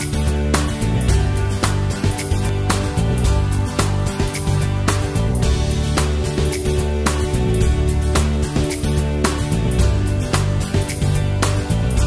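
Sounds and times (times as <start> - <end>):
strong beat: 0.1 - 12.0.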